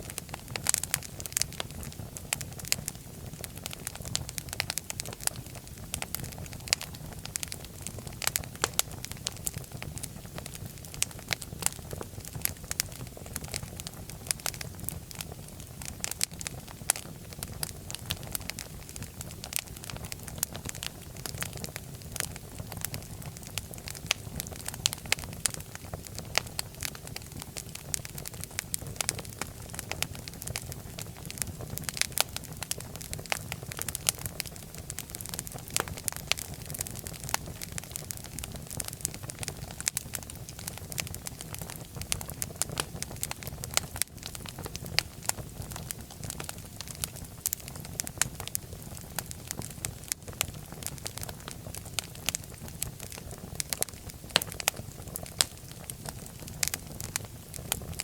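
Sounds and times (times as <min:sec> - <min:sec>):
fire crackling: 0:00.0 - 0:58.0
low rumble of flames: 0:00.0 - 0:58.0.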